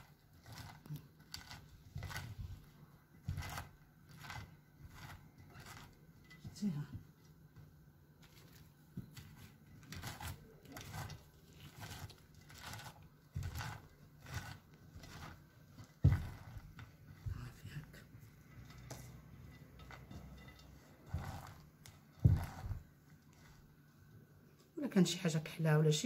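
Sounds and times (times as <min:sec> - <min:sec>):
hands crumbling dry flatbread: 0:00.0 - 0:17.3, 0:18.6 - 0:23.6.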